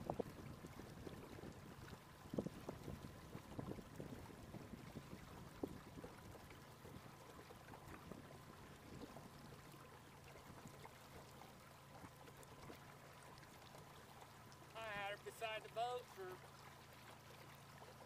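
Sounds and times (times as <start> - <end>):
water lapping against boat: 0.0 - 18.0.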